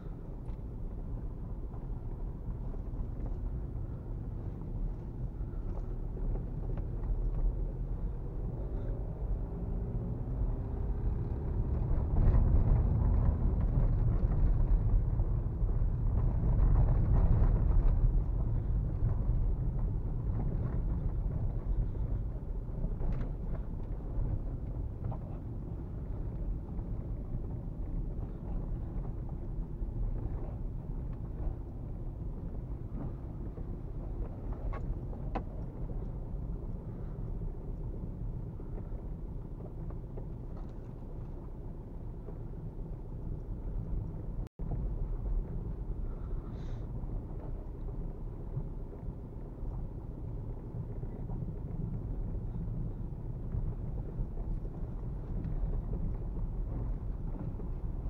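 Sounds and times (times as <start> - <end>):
low rumble from tyres and body: 0.0 - 58.0.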